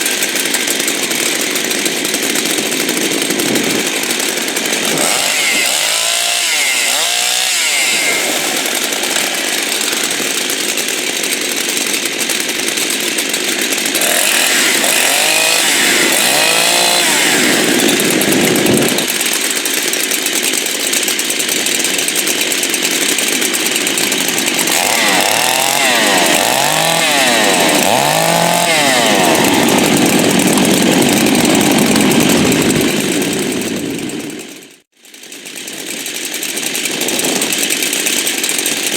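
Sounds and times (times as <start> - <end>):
chainsaw running at full throttle: 0.0 - 38.9.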